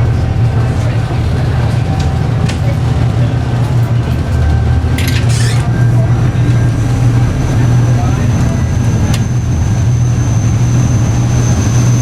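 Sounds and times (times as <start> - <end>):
ferry engines droning: 0.0 - 12.0.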